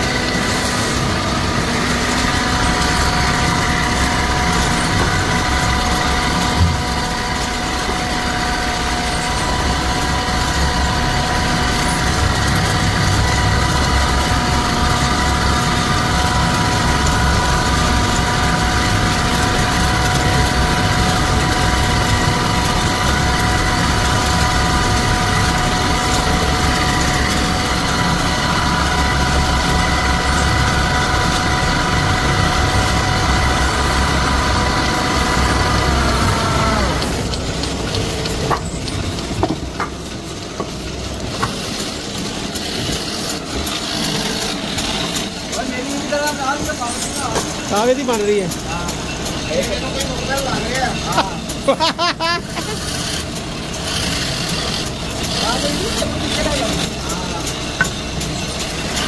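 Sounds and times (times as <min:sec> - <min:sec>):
wood lathe running: 0:00.0 - 0:59.0.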